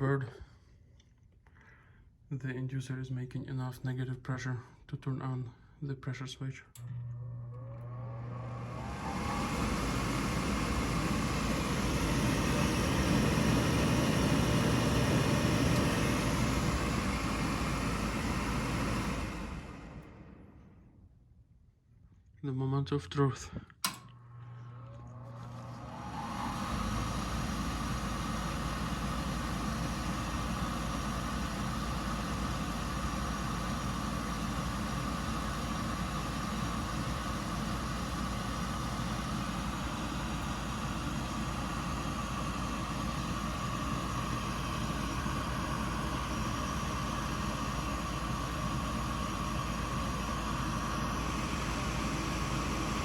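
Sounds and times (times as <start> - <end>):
furnace motor whine: 1.2 - 21.5, 22.7 - 53.0
motor hum: 6.7 - 21.2, 23.2 - 53.0.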